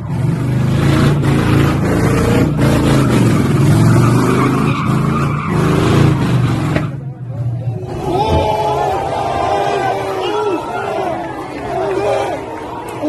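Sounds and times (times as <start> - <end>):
tyres skidding and squealing: 0.0 - 13.0.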